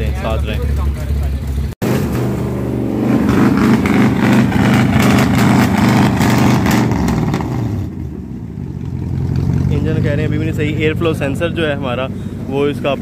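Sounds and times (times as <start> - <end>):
car engine running unevenly: 0.0 - 2.0, 3.1 - 13.0.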